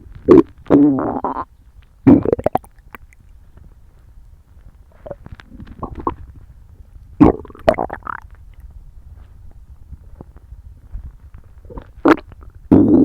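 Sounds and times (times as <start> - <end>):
stomach rumbling and gurgling: 0.0 - 13.0.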